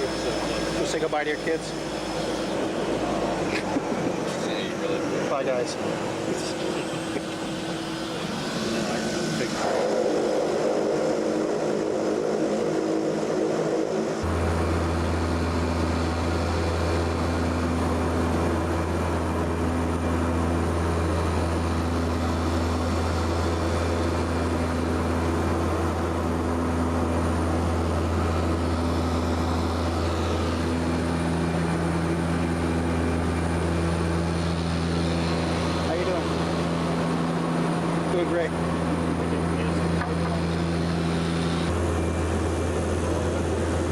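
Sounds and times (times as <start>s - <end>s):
propeller engine droning in cabin: 0.0s - 43.9s.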